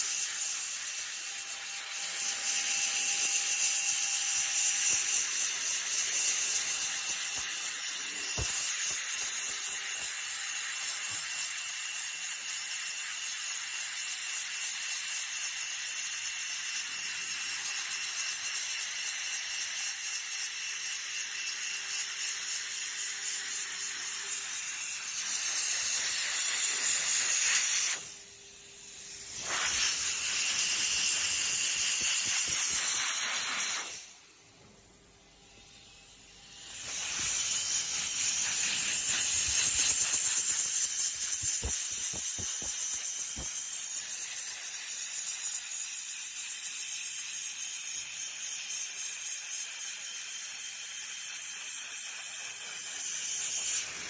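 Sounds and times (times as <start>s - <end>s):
plastic welding gun air hiss: 0.0s - 34.5s, 35.3s - 54.0s.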